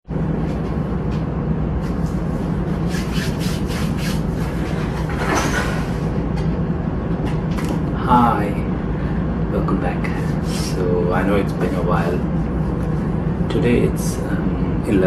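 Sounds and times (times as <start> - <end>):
ship machinery drone: 0.1 - 15.0.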